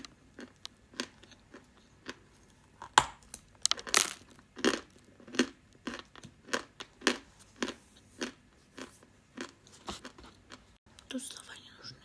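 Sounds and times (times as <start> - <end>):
crunchy chewing: 0.0 - 2.9, 3.6 - 10.7.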